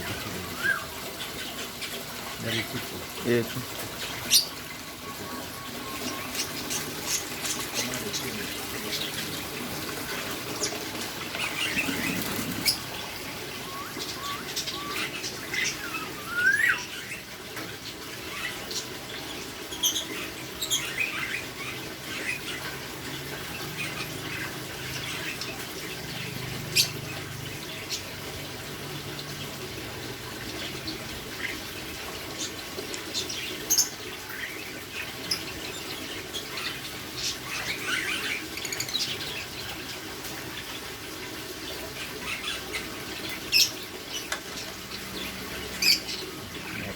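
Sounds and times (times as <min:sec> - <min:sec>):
birds chirping and squeaking: 0:00.0 - 0:46.9.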